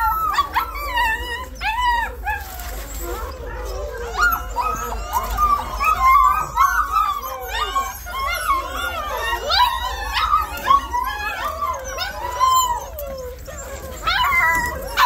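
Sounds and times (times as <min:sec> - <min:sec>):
puppies crying: 0:00.0 - 0:15.0.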